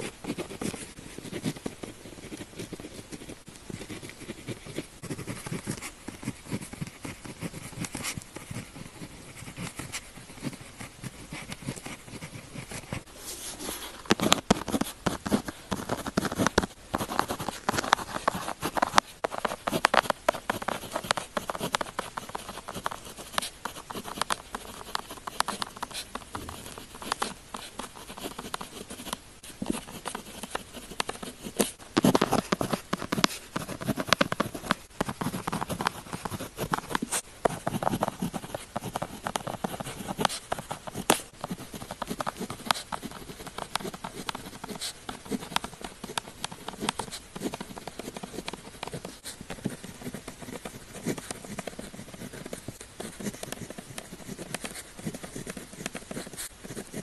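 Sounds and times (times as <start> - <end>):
pen scratching on paper: 0.0 - 57.0.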